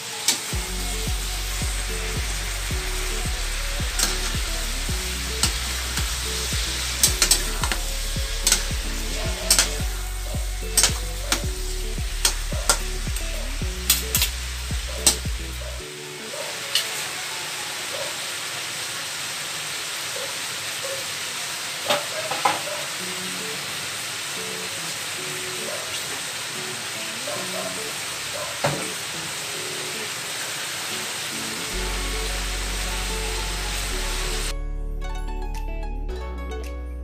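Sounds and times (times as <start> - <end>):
vegetables sizzling in a wok: 0.0 - 15.3, 16.0 - 34.5.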